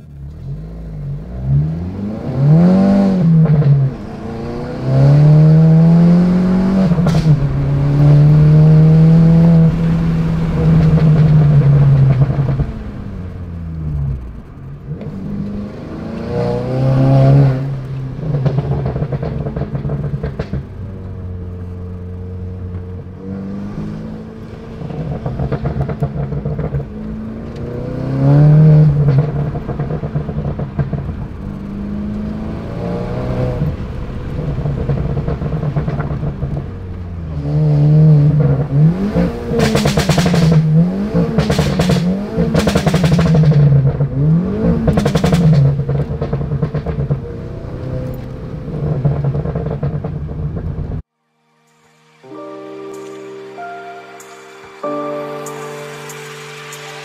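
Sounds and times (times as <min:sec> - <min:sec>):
car engine accelerating hard: 0:00.0 - 0:51.1.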